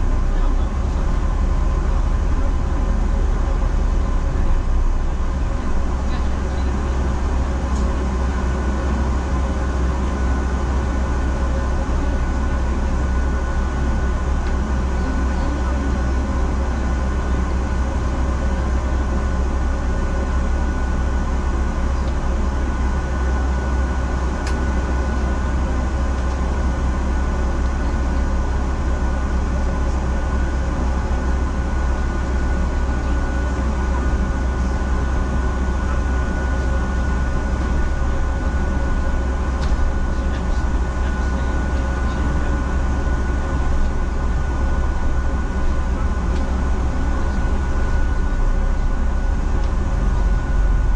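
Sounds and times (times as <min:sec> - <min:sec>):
bus engine low rumble: 0:00.0 - 0:50.9
thin constant whine: 0:00.0 - 0:50.9.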